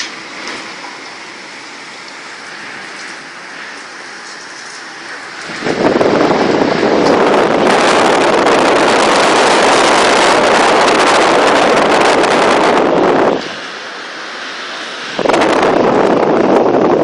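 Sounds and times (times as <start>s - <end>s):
strong wind on microphone: 2.4s - 17.0s.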